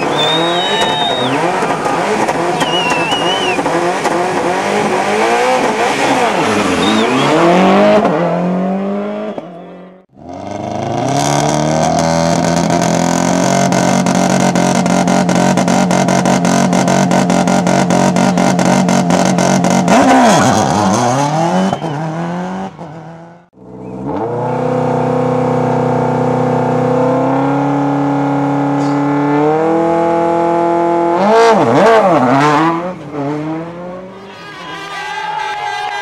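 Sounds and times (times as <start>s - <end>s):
rally car engines passing: 0.0s - 36.0s.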